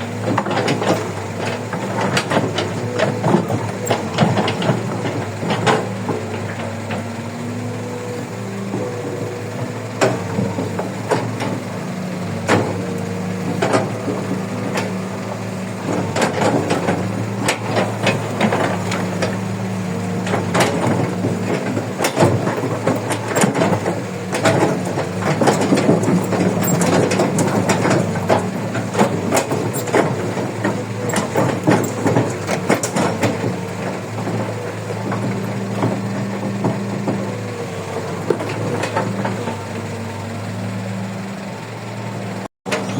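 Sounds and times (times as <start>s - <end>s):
excavator diesel engine running: 0.0s - 42.9s
machine clanks and knocks: 0.1s - 40.7s, 42.6s - 42.9s.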